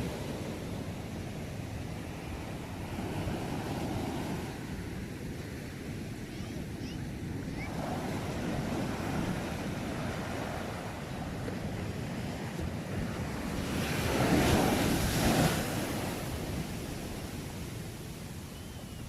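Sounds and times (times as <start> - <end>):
ocean waves washing on shore: 0.0 - 19.0
wind noise on microphone: 0.0 - 19.0.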